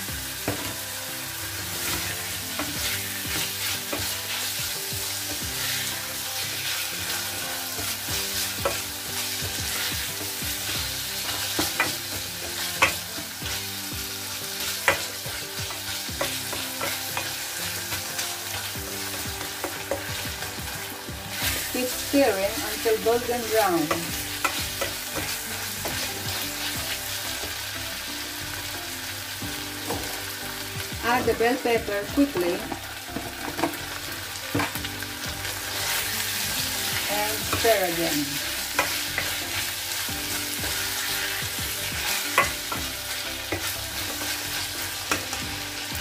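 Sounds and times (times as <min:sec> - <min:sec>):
food sizzling in a saucepan: 0:00.0 - 0:46.0.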